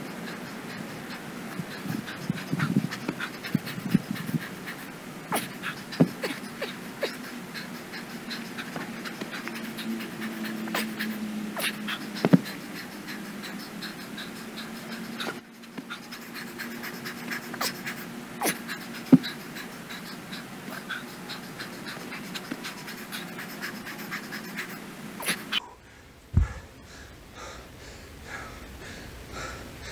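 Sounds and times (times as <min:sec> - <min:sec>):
man panting hard: 0:00.0 - 0:29.9.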